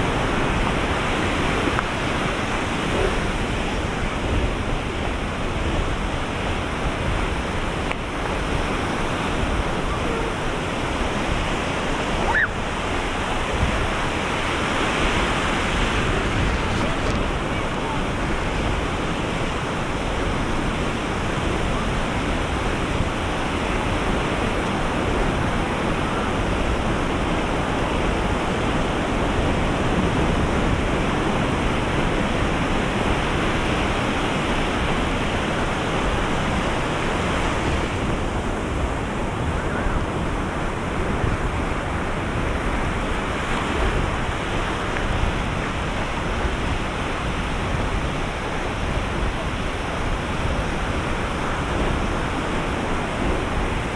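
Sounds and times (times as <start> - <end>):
ocean waves breaking on shore: 0.0 - 53.9.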